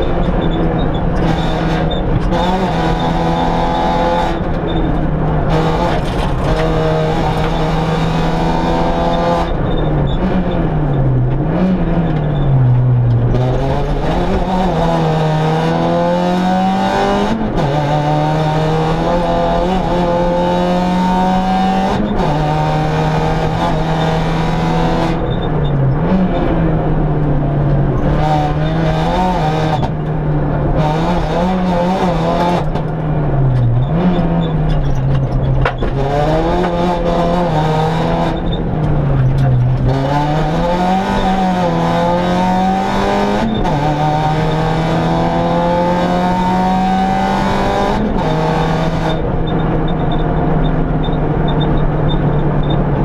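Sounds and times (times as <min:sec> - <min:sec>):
car engine at high revs: 0:00.0 - 0:53.0.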